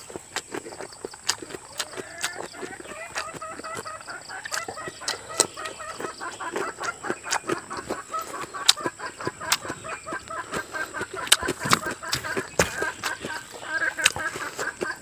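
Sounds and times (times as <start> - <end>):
chewing crisp food: 0.0 - 15.0
wet mouth smacks and clicks: 0.1 - 15.0.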